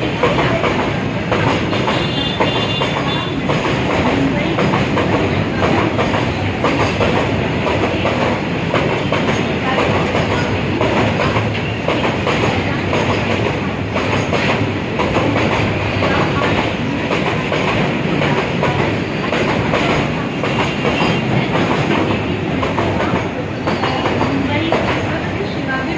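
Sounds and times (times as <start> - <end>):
freight train wheels clattering: 0.0 - 25.9.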